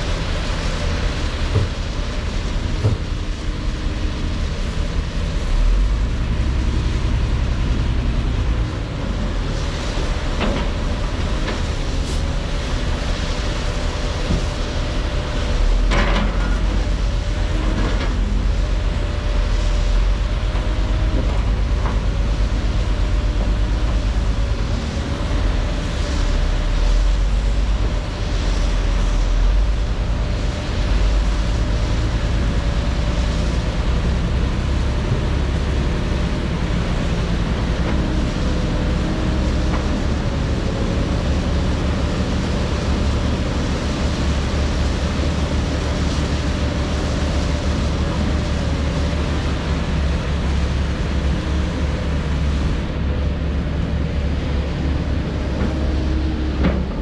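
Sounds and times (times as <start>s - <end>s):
constant machine whine: 0.0s - 57.0s
diesel machinery engine rumble: 0.0s - 57.0s.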